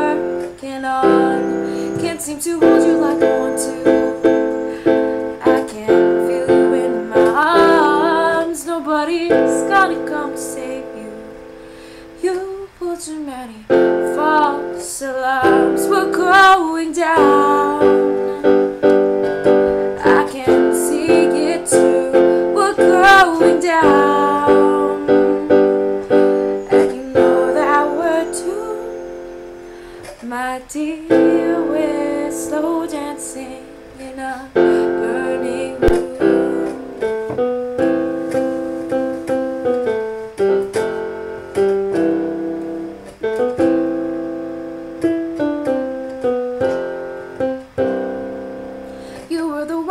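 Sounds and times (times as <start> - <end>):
woman singing: 0.0 - 11.5, 12.1 - 40.0, 49.0 - 49.9
piano chords: 0.0 - 49.9.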